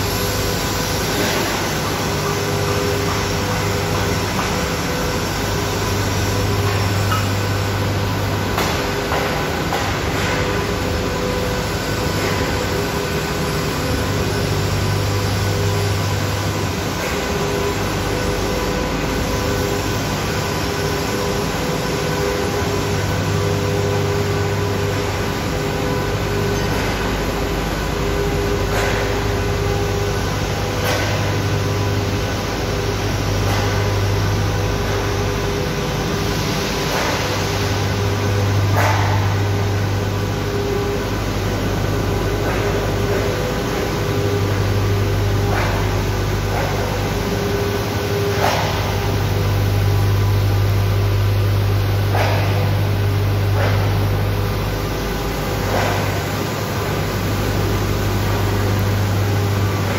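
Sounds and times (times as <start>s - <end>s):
machinery drone: 0.0s - 59.9s.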